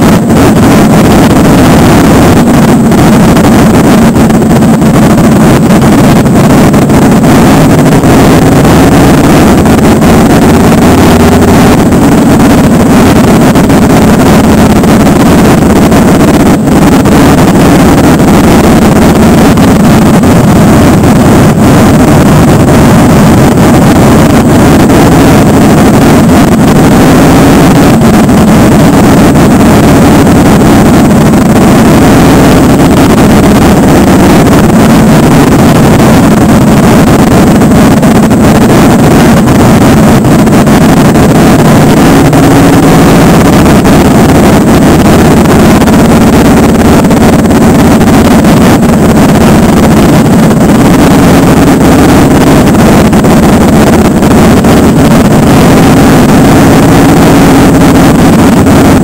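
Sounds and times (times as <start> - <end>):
motorcycle engines running: 0.0 - 59.0
wind noise on microphone: 0.0 - 59.0.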